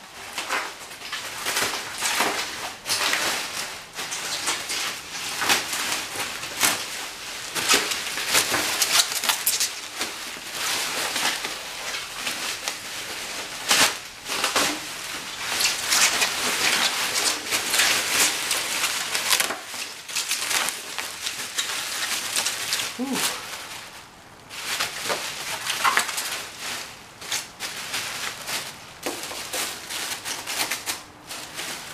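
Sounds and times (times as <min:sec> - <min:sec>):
bubble wrap crinkling and crackling: 0:00.0 - 0:31.9.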